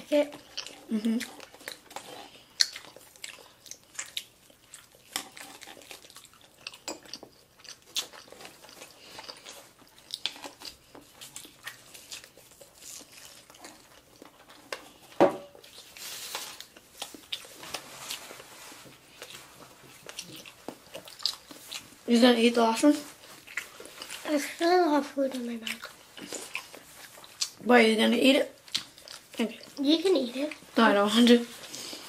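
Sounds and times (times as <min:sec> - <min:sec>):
chewing with crisp crackles: 0:00.0 - 0:32.0.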